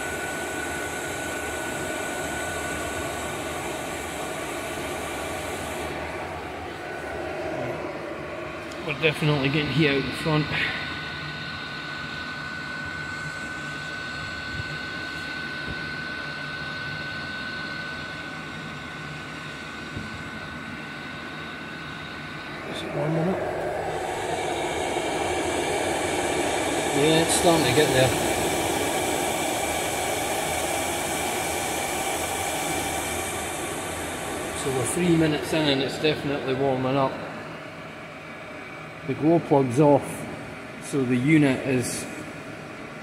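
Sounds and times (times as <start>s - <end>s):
heater fans blowing: 0.0s - 43.0s
thin steady whine: 0.0s - 43.0s.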